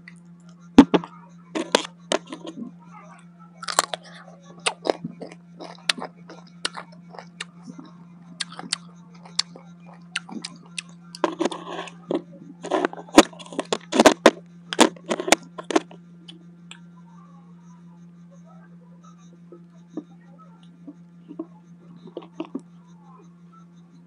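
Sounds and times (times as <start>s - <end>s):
crunchy chewing of fruit: 0.0s - 17.0s, 19.0s - 24.0s
steady low hum: 0.0s - 24.0s.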